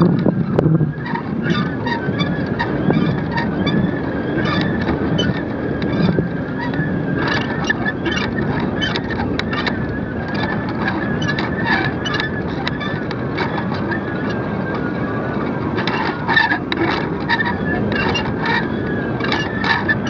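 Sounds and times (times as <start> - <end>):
wind noise: 0.0 - 20.0.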